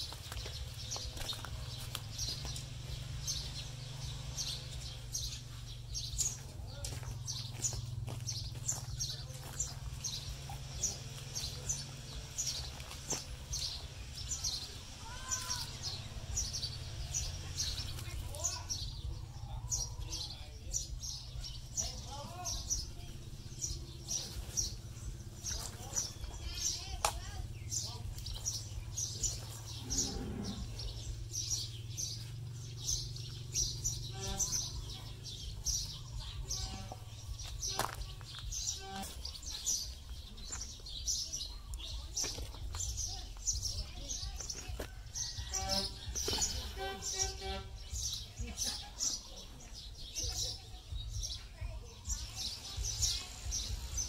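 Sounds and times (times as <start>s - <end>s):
small bird chirping: 0.0s - 54.0s
steady low hum: 0.0s - 54.0s.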